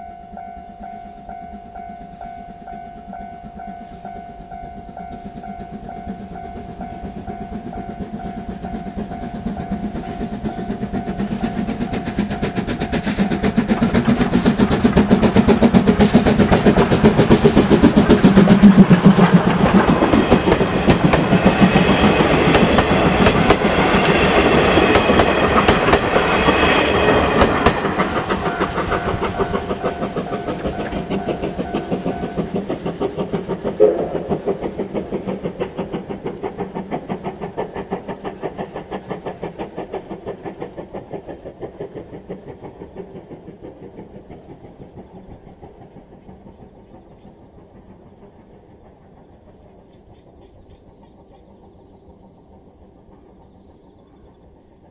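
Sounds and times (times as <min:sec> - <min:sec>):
train wheels clattering on track: 0:00.0 - 0:54.9.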